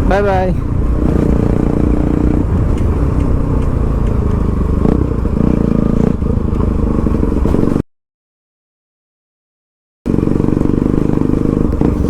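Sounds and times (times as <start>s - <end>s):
motorcycle engine revving: 0.0s - 7.8s, 10.1s - 12.0s.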